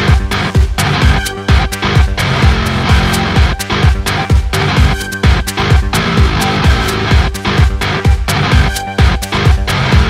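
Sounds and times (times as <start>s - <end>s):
deep bass hits: 0.0s - 10.0s
distorted electric guitars: 0.0s - 10.0s
drums: 0.0s - 10.0s.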